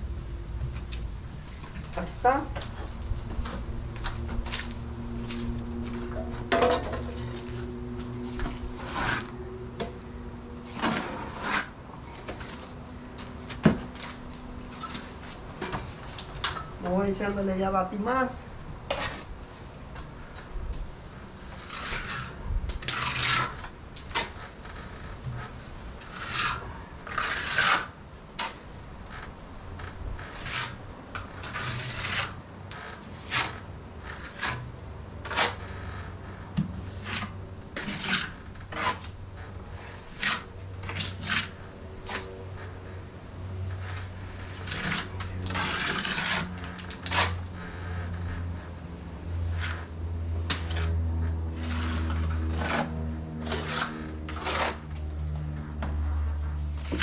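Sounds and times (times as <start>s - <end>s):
trowel scraping wet stucco: 4.4s - 15.4s, 18.3s - 20.5s, 21.1s - 28.8s, 30.3s - 48.7s, 49.3s - 57.0s.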